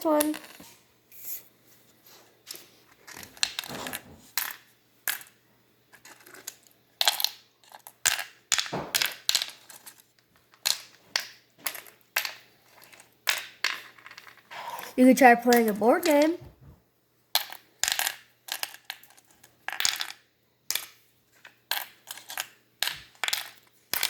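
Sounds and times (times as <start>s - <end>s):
game pieces clattering on table: 0.0s - 0.7s, 3.0s - 16.5s, 17.4s - 24.0s.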